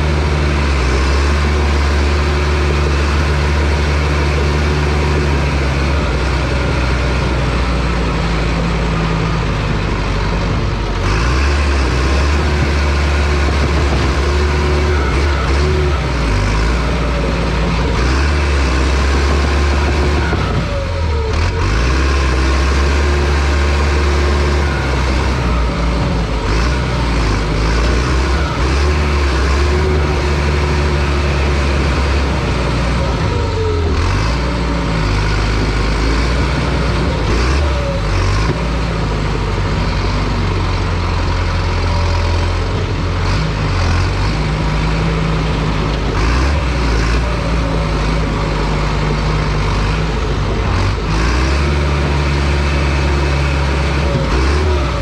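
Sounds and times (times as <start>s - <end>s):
diesel dozer engine under load: 0.0s - 55.0s.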